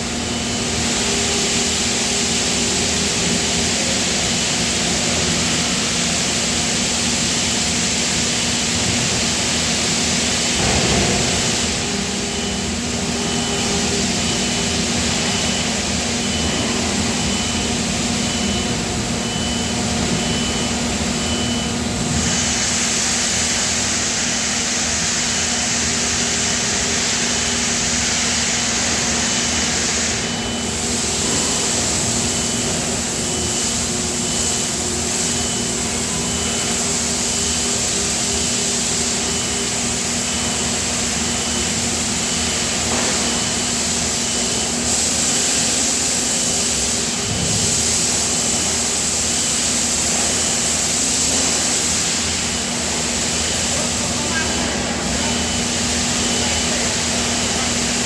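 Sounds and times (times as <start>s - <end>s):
loud machinery hiss: 0.0s - 58.0s.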